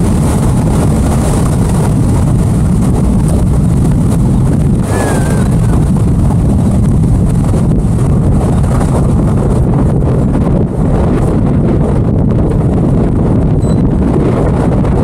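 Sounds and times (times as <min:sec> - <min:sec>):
boat engine drone: 0:00.0 - 0:15.0
wind buffeting microphone: 0:00.0 - 0:15.0.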